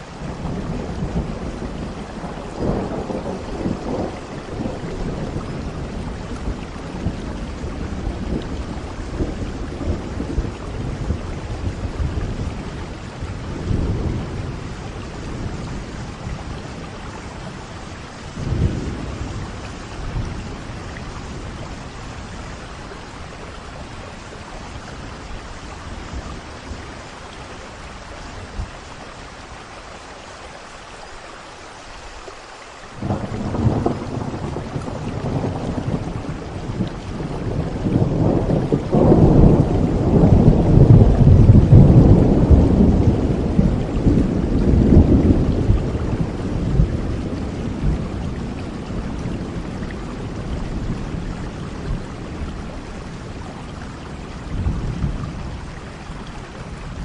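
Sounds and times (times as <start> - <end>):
thunder rumbling: 0.0 - 29.4, 33.0 - 57.0
steady rain: 0.0 - 57.0.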